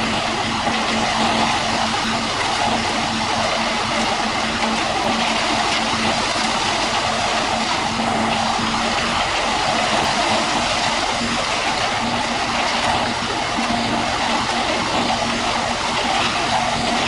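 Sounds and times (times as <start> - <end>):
construction machinery running: 0.0 - 17.0
faint hum: 0.0 - 17.0.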